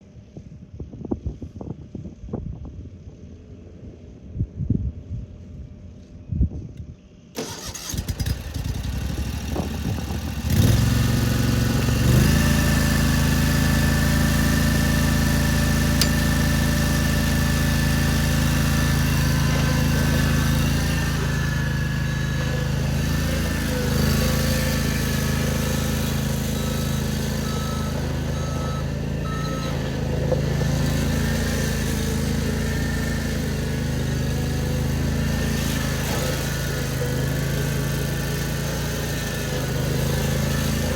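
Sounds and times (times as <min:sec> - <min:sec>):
mower engine starting and running: 0:07.3 - 0:40.9.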